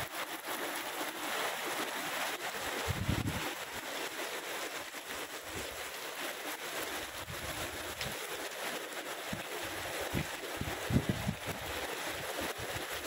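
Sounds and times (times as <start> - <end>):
heavy rain falling: 0.0 - 13.0
wind rumbling on microphone: 2.5 - 13.0.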